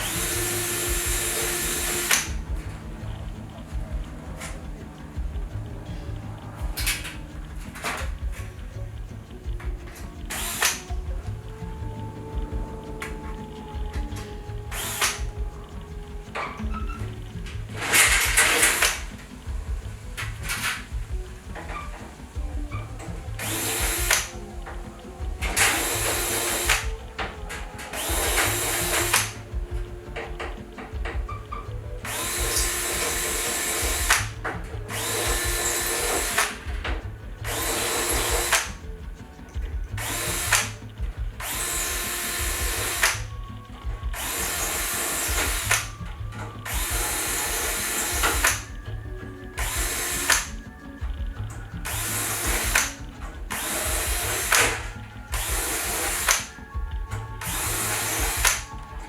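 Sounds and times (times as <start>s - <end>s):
power drill running: 0.0s - 5.9s, 9.3s - 38.9s, 39.6s - 48.8s, 49.6s - 59.0s.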